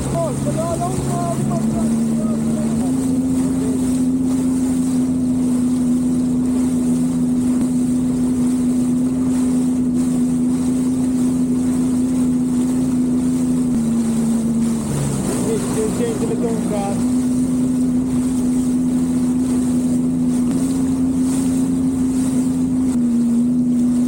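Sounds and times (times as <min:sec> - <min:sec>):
jet ski engine droning: 0:00.0 - 0:24.0
water rushing: 0:00.0 - 0:24.0
wind: 0:00.0 - 0:24.0.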